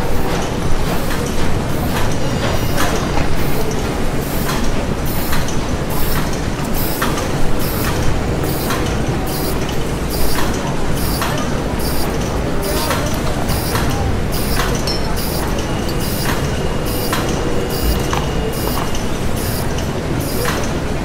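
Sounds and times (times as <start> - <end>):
factory machinery din: 0.0 - 21.0
machinery clicks and knocks: 0.0 - 21.0.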